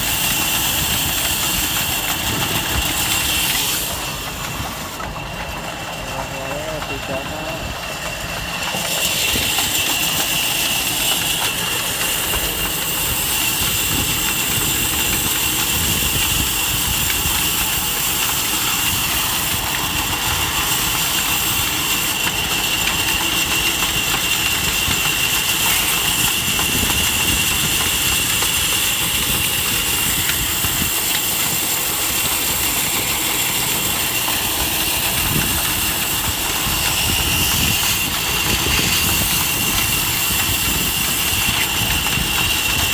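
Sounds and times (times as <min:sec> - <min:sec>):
band saw blade whine: 0:00.0 - 0:42.9
tractor engine running: 0:00.0 - 0:42.9.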